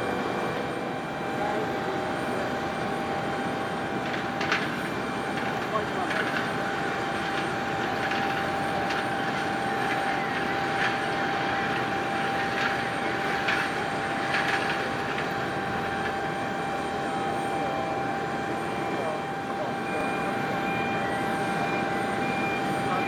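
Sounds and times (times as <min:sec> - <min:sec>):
mechanical hum: 0:00.0 - 0:23.0
steady high whine: 0:00.0 - 0:23.0.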